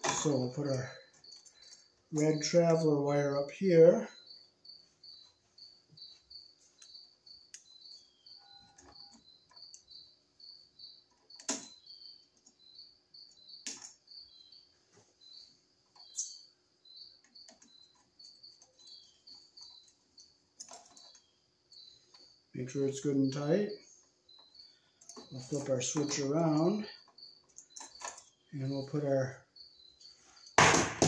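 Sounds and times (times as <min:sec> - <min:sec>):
cricket chirping: 0:00.0 - 0:31.0.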